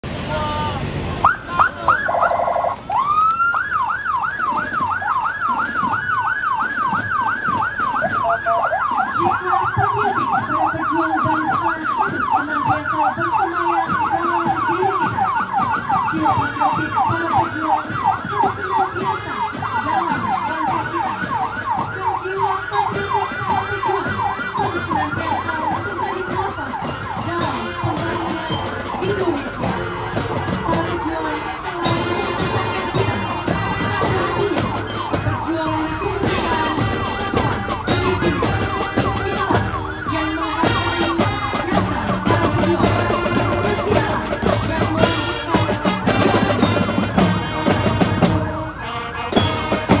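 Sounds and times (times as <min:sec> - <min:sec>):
police siren yelping: 0:00.7 - 0:50.0.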